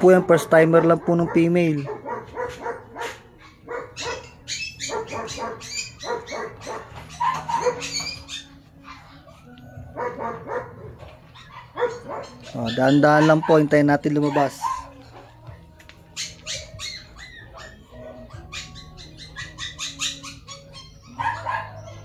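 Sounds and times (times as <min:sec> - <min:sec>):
puppies squeaking and whimpering: 0:00.0 - 0:22.0.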